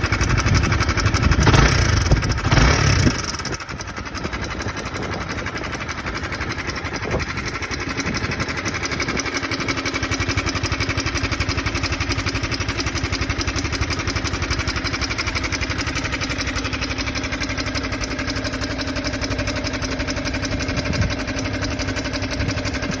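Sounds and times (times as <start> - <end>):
car engine idling: 0.0 - 23.0
fast even engine ticking: 0.0 - 23.0.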